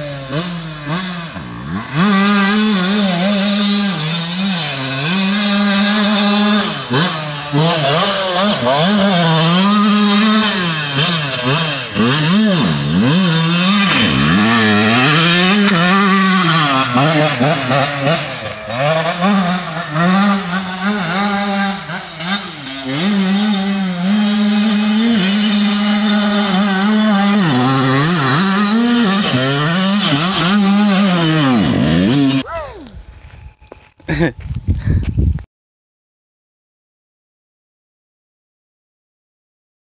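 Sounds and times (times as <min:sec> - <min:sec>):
dirt bike engine revving: 0:00.0 - 0:32.6.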